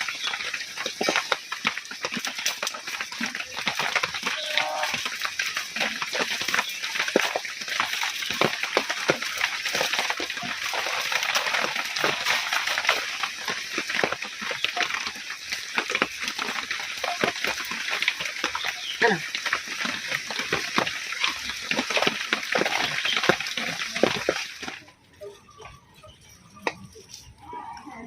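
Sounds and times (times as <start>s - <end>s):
heavy rain splashing on water: 0.0s - 26.0s.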